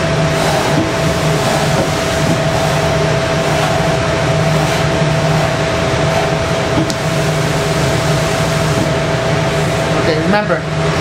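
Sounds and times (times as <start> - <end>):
climate equipment hum: 0.0 - 11.0
steady low and high tones: 0.0 - 11.0.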